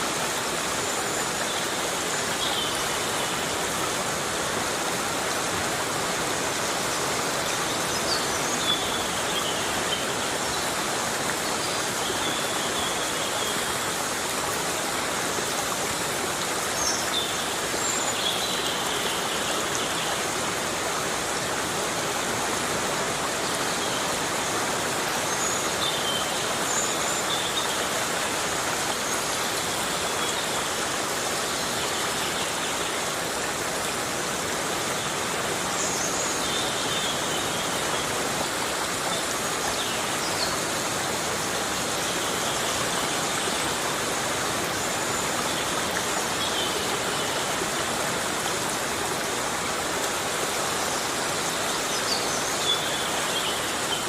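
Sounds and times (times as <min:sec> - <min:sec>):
heavy rain on foliage: 0:00.0 - 0:54.0.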